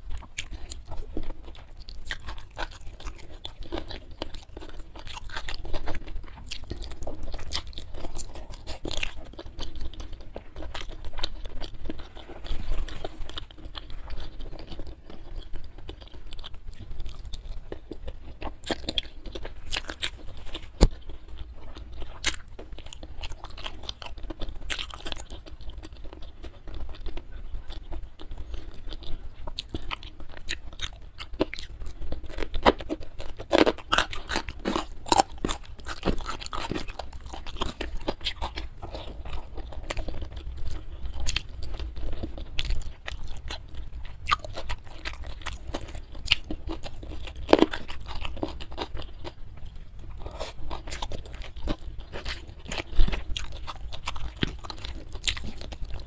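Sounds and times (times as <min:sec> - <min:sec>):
crunching food: 0:00.0 - 0:56.0
wet chewing: 0:00.0 - 0:56.0.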